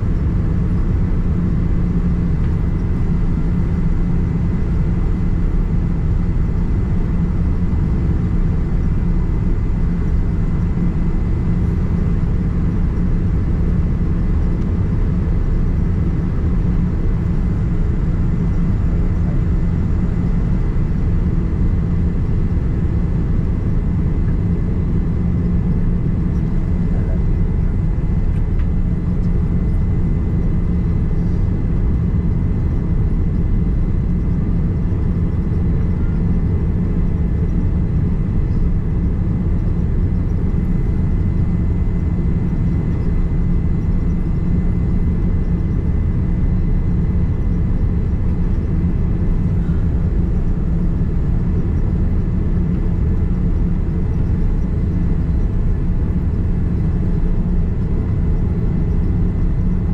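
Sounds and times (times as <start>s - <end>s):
airliner cabin rumble: 0.0s - 59.9s
faint steady whine: 0.0s - 59.9s.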